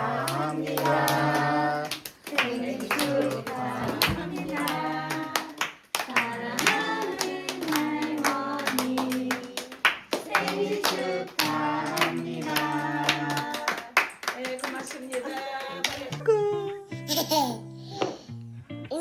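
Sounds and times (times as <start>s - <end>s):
person singing: 0.0s - 18.3s
hand claps keeping time: 0.2s - 16.2s.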